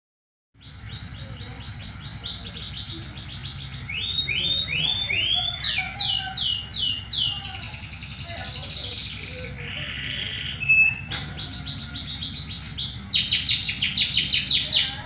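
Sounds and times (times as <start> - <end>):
canary singing: 0.6 - 15.0.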